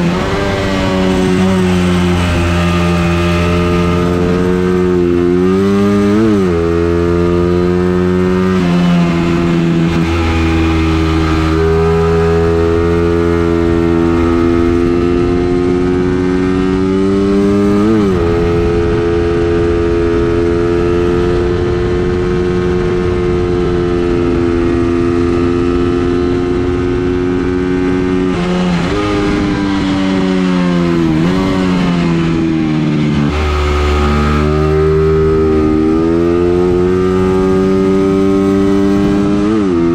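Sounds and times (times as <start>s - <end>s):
racing engine under load: 0.0s - 39.9s.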